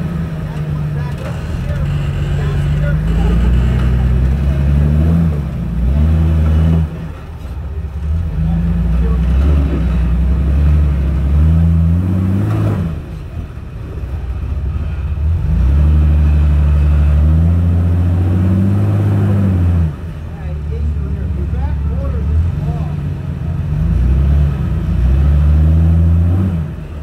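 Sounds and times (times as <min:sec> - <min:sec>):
engine revving hard: 0:00.0 - 0:07.4, 0:08.0 - 0:13.3, 0:14.8 - 0:20.2, 0:20.8 - 0:27.0.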